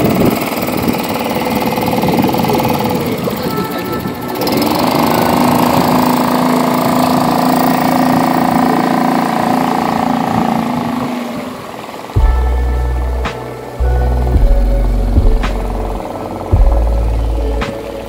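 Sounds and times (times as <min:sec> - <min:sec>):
outboard motor revving: 0:00.0 - 0:18.0.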